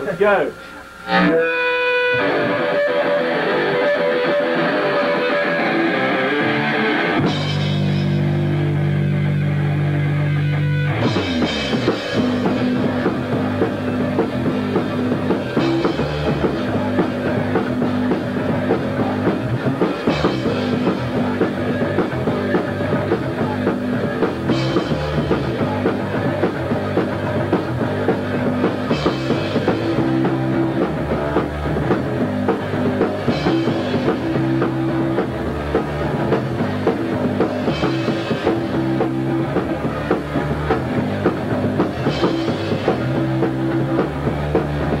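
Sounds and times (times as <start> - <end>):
punk rock band playing: 0.0 - 45.0.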